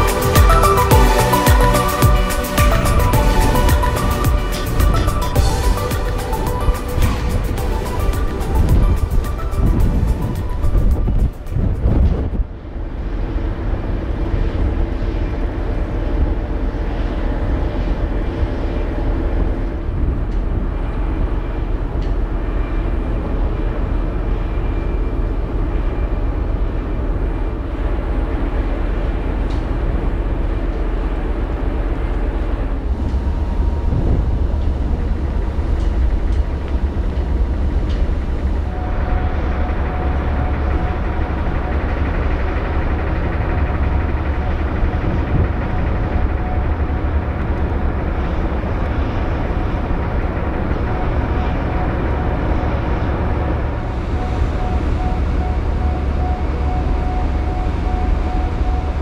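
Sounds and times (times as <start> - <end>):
ferry engines low rumble: 0.0 - 59.0
steady higher tone: 0.0 - 59.0.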